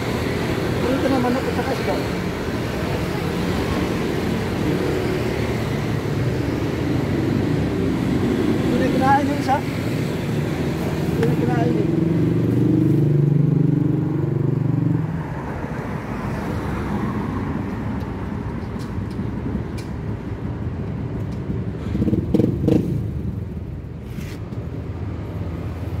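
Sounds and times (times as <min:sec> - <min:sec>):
low traffic rumble: 0:00.0 - 0:26.0.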